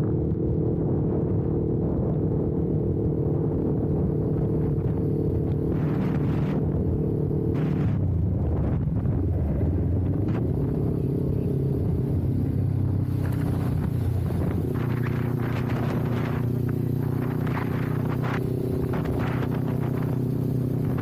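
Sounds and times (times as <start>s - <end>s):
motorcycle engine running: 0.0s - 21.0s
wind rumble on microphone: 0.0s - 21.0s.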